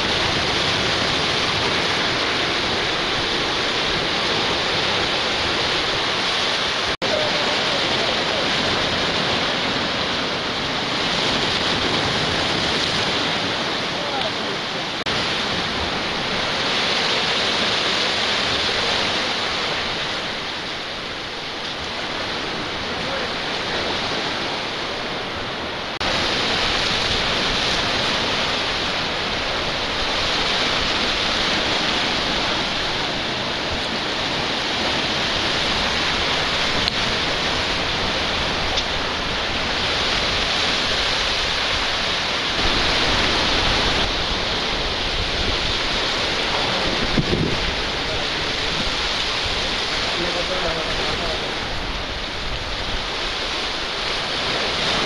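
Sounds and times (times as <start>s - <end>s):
surf breaking over boulders: 0.0s - 55.0s
wind rumbling on microphone: 0.0s - 55.0s.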